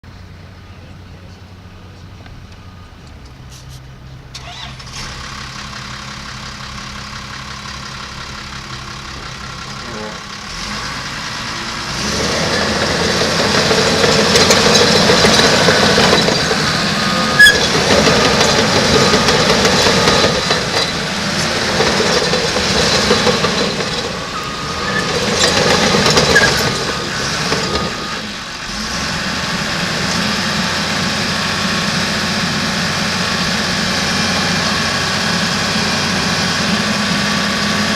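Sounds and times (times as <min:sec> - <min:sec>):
diesel engine revving: 0:00.0 - 0:37.9
engine whine: 0:00.0 - 0:37.9.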